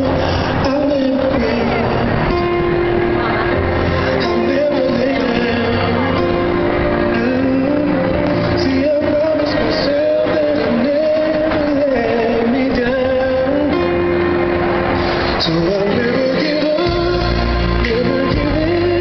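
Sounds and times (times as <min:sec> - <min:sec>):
person singing over backing music: 0:00.0 - 0:19.0.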